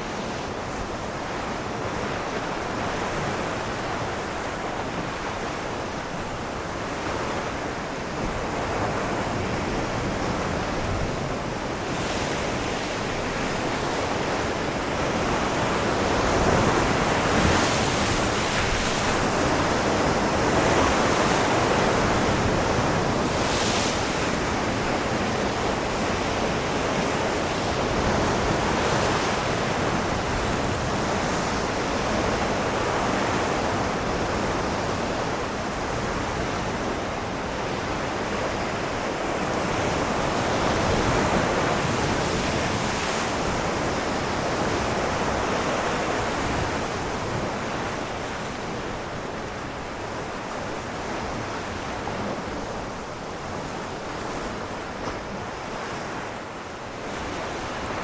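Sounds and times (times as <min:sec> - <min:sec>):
ocean waves breaking on rocks: 0:00.6 - 0:58.0.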